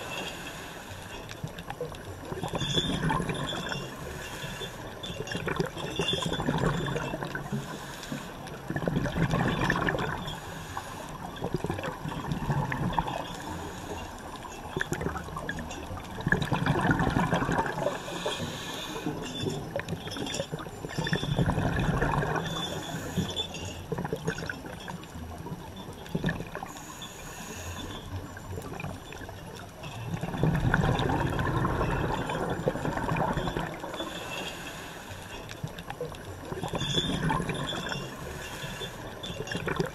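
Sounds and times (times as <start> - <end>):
regulator bubbles gurgling underwater: 0.0 - 39.9.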